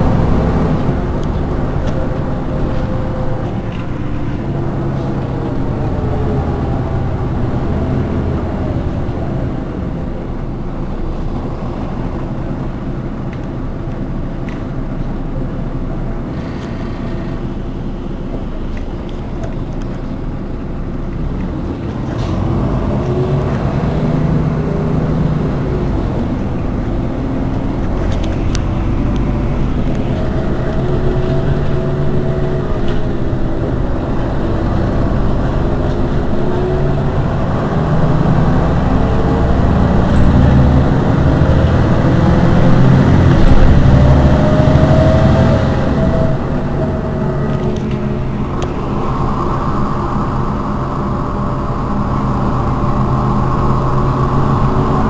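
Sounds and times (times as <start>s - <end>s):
bus engine idling: 0.0s - 55.0s
wavering engine whine: 0.0s - 55.0s.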